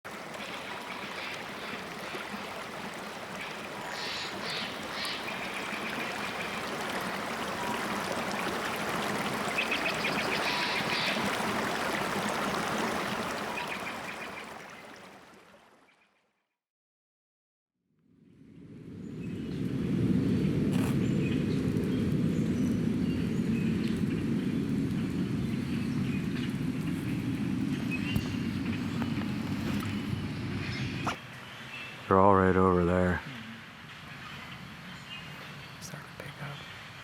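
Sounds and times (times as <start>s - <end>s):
rushing forest stream: 0.1s - 16.0s, 20.6s - 37.0s.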